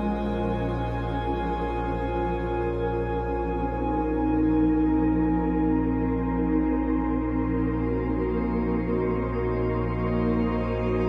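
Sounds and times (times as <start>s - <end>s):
slow new-age chords: 0.0s - 11.0s.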